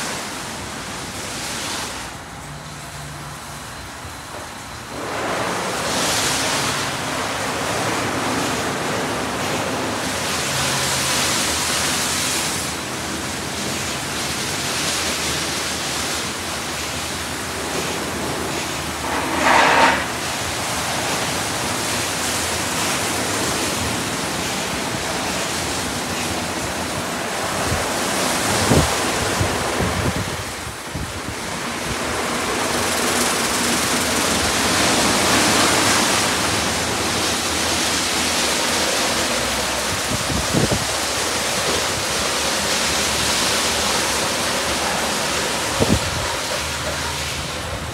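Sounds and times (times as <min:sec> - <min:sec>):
water spraying onto car: 0:00.0 - 0:47.9.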